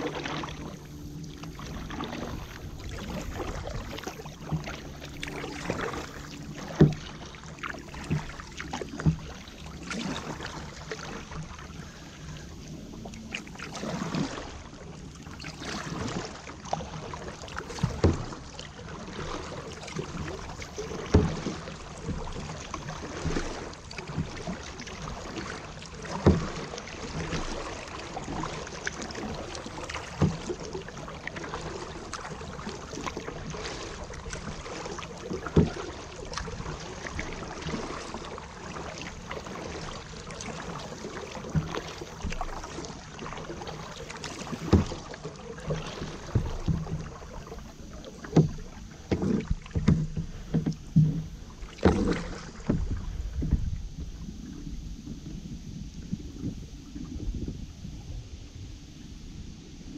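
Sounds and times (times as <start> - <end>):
paddle splashing water: 0.0 - 59.9.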